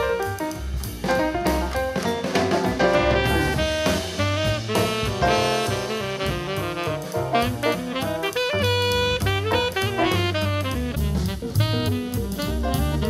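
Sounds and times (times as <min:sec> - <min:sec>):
jazz music through a speaker: 0:00.0 - 0:13.0.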